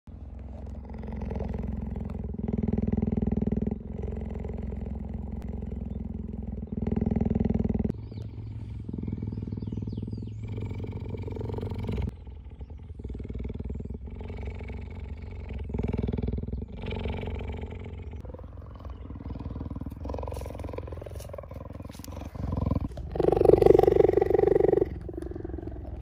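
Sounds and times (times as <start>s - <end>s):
cheetah purring: 0.1s - 26.0s.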